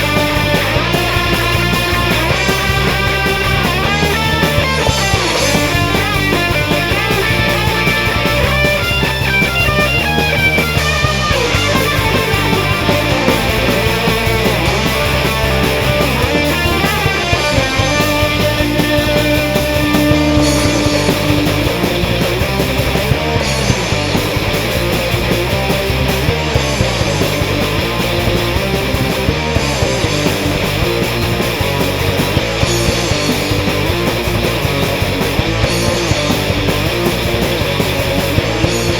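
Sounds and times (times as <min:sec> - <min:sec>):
loud rock music with guitar: 0:00.0 - 0:38.9.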